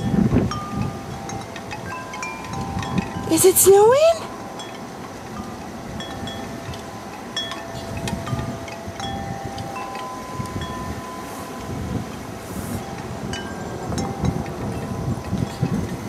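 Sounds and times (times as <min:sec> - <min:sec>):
wind chimes ringing: 0:00.0 - 0:16.0
wind rumbling on microphone: 0:00.0 - 0:16.0.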